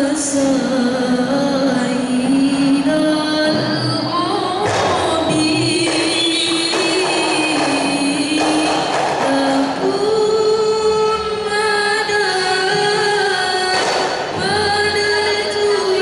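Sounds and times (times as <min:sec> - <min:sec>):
girls singing through a microphone: 0:00.0 - 0:16.0
woman singing long sliding notes: 0:00.0 - 0:16.0.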